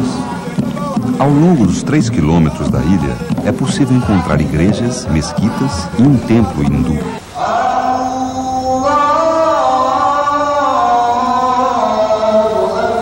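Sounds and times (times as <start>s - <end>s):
man chanting call to prayer: 0.0s - 13.0s.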